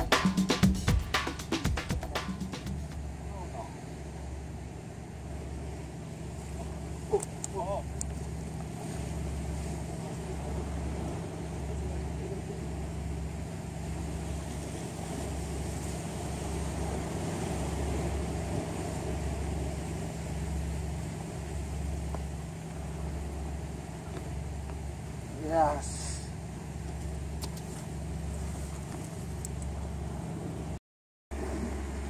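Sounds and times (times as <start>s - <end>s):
throbbing mechanical rumble: 0.0s - 32.0s.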